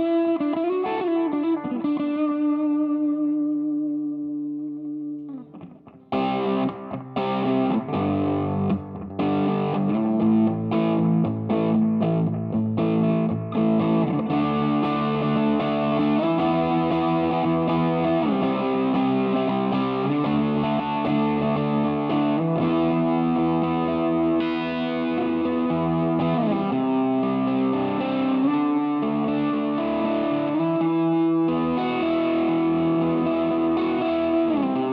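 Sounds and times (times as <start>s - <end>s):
overdriven electric guitar: 0.0s - 34.9s.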